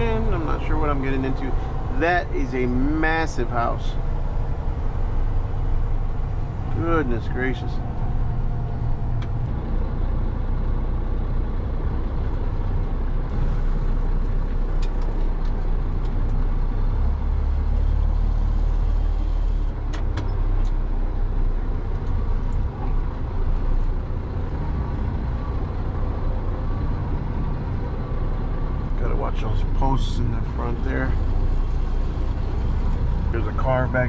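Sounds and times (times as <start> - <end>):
truck engine rumble: 0.0 - 34.0.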